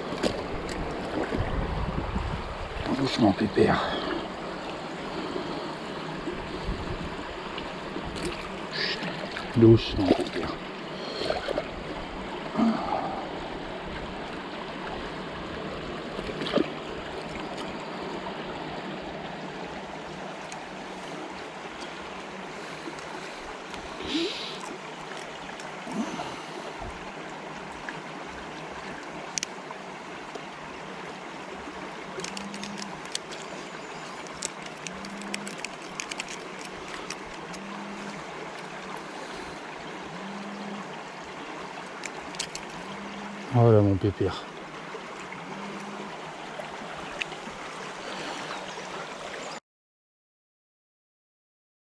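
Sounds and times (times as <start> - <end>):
river water flowing: 0.0 - 49.6.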